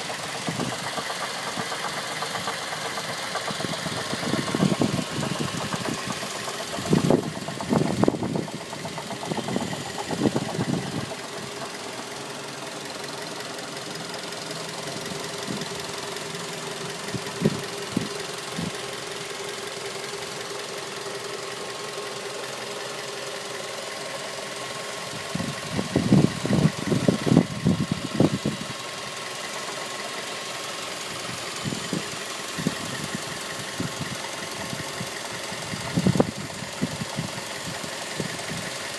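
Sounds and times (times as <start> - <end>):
car engine humming: 0.0 - 38.9
engine knocking: 0.0 - 38.9.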